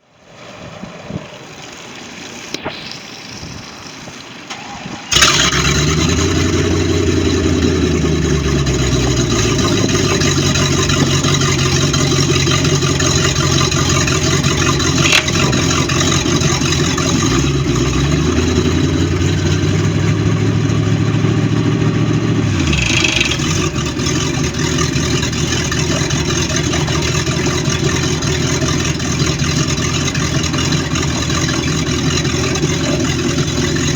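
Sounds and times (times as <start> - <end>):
boat engine starting and revving: 0.4 - 33.9
engine knocking: 5.1 - 33.9.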